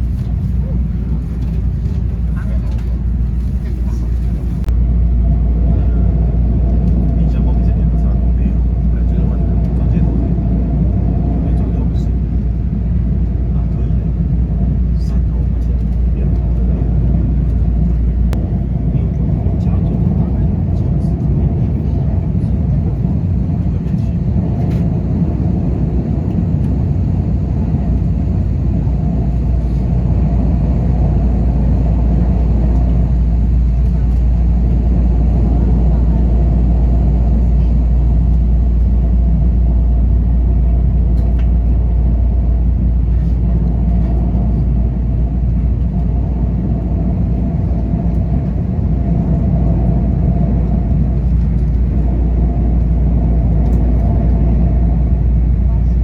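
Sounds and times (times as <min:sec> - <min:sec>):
train rumbling inside carriage: 0:00.0 - 0:56.0.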